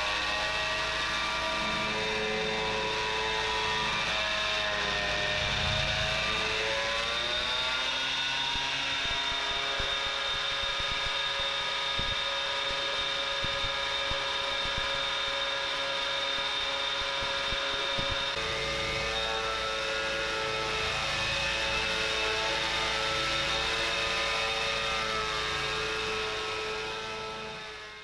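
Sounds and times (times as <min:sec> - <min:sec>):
thickness planer motor whine: 0:00.0 - 0:28.0.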